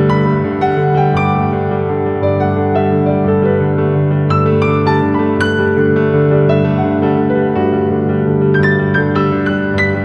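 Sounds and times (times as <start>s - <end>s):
soft piano music: 0.0s - 10.0s.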